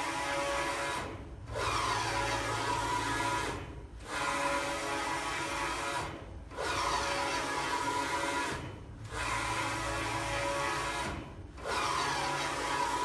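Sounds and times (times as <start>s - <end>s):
printhead carriage motor whine: 0.0s - 13.0s.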